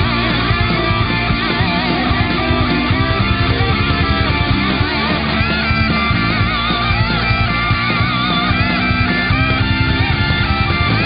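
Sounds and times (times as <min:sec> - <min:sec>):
heavy rock music: 0:00.0 - 0:11.0.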